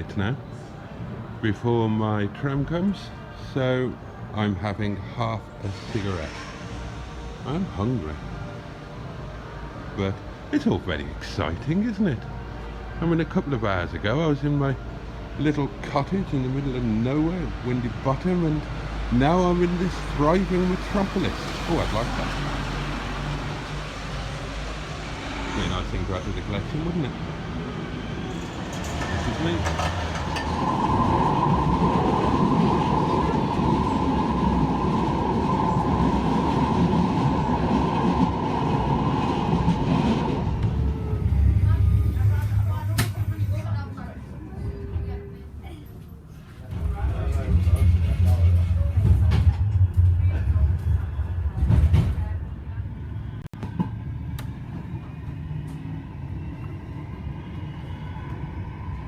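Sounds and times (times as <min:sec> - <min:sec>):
tram running with whine: 0:00.0 - 0:59.0.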